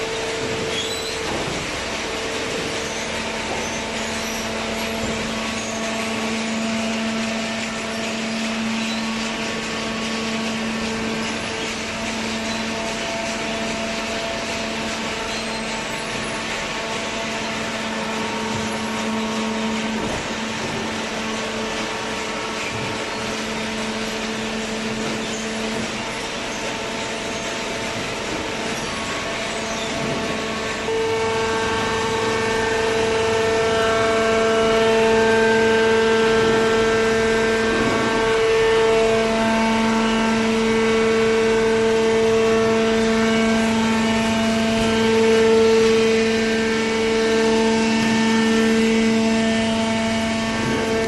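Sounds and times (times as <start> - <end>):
hydraulic baler humming: 0.0 - 51.0.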